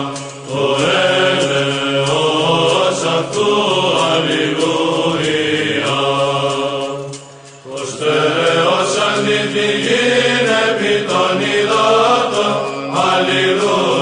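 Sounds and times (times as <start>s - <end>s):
slow vocal chant: 0.0s - 14.0s.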